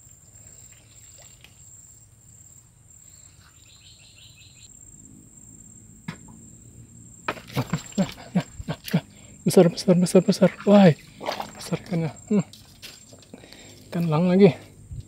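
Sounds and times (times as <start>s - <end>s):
high-pitched insect buzz: 0.0s - 15.0s.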